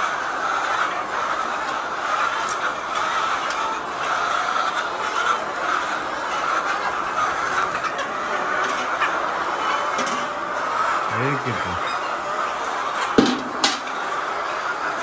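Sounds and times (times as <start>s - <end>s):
hens clucking: 0.1s - 15.0s.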